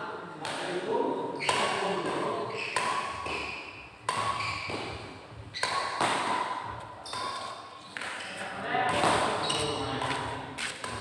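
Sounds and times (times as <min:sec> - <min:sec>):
rackets hitting shuttlecock: 0:00.4 - 0:11.0.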